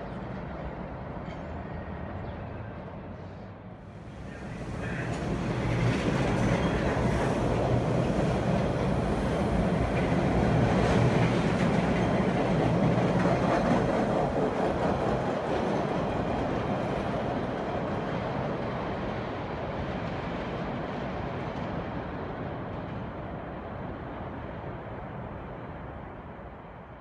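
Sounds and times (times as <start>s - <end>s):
subway train running past: 0.0s - 27.0s.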